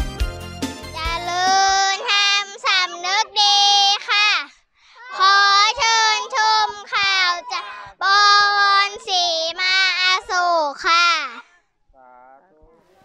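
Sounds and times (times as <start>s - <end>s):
child singing high notes: 1.0s - 11.5s.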